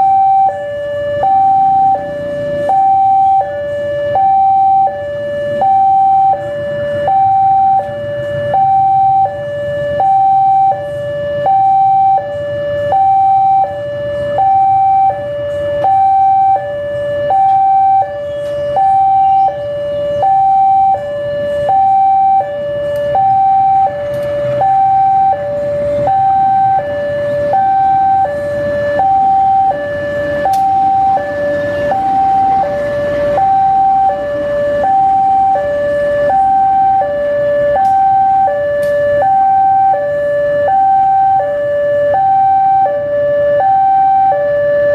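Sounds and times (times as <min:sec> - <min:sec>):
two-tone hi-lo siren: 0:00.0 - 0:44.9.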